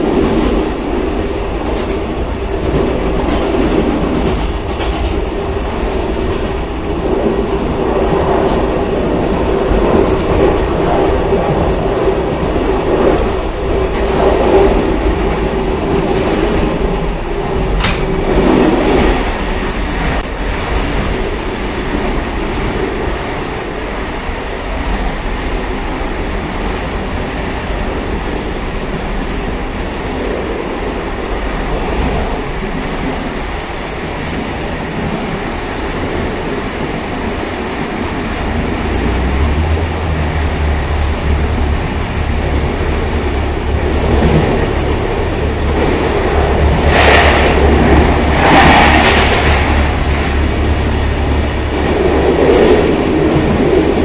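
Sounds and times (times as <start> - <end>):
railcar wheels rumbling on track: 0.0 - 54.0.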